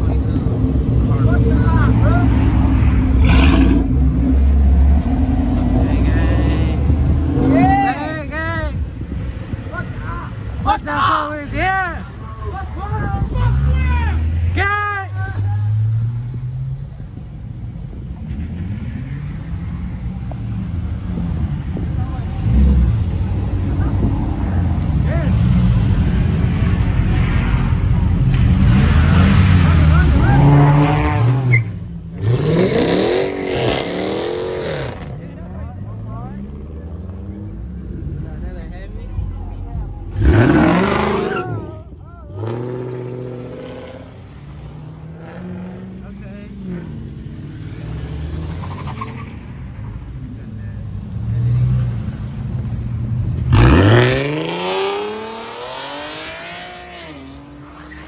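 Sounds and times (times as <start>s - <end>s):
car engine revving: 0.0s - 8.3s, 17.9s - 58.0s.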